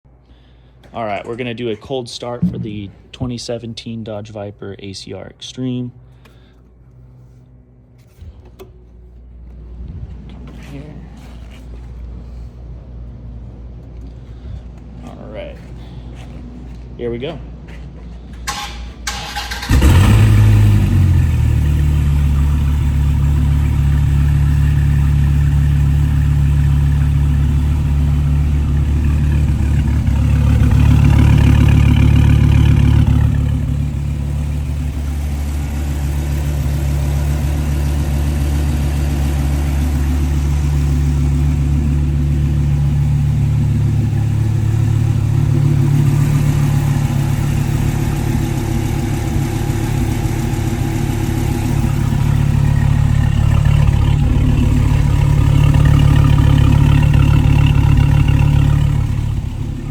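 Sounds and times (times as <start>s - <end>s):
car engine starting and idling: 5.8s - 59.9s.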